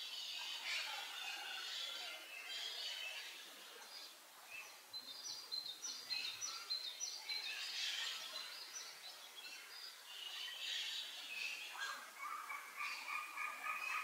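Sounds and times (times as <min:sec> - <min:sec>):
small birds chirping: 0:02.3 - 0:14.0.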